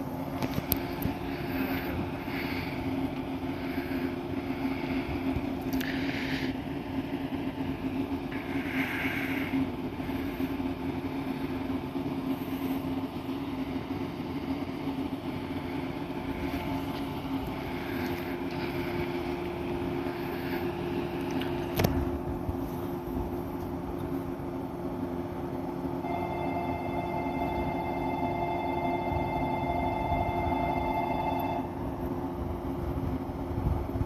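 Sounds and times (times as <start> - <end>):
train equipment humming: 0.0 - 34.0.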